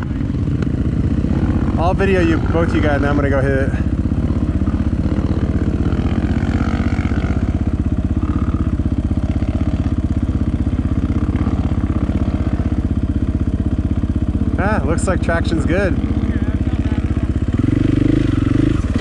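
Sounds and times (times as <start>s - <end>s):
dirt bike engine idling: 0.0s - 19.0s.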